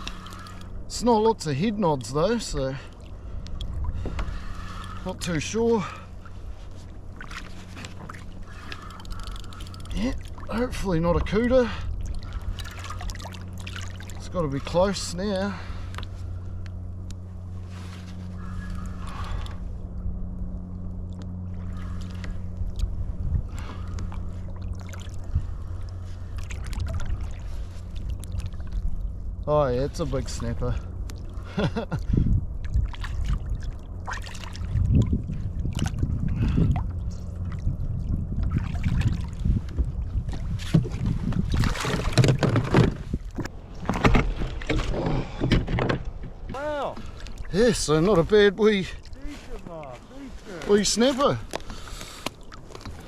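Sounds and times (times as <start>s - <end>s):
steady low hum: 0.0s - 53.0s
wind rumbling on microphone: 1.8s - 53.0s
water splashing against kayak hull: 2.3s - 16.5s, 21.0s - 53.0s.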